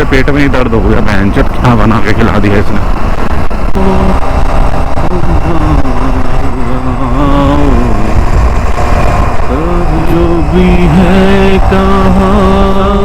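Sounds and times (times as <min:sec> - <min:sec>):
car engine rumble: 0:00.0 - 0:13.0
road noise in traffic: 0:00.0 - 0:13.0
wavering pitched tone: 0:02.3 - 0:13.0.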